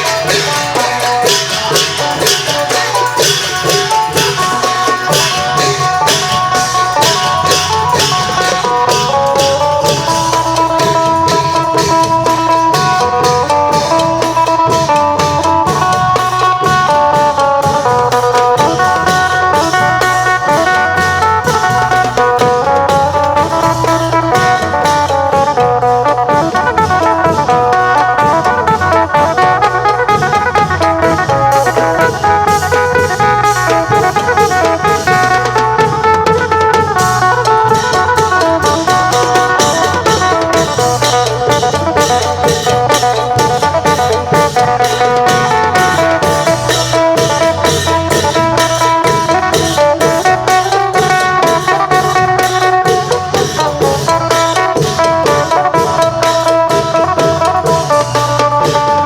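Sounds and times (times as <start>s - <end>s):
long drums and percussion beat: 0.0s - 59.0s.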